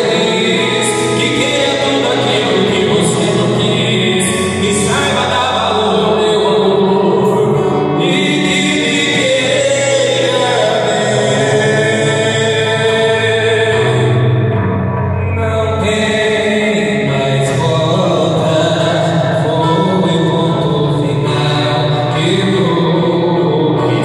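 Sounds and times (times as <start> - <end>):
two men singing: 0.0 - 14.6, 15.2 - 24.0
strummed acoustic guitar: 0.0 - 24.0.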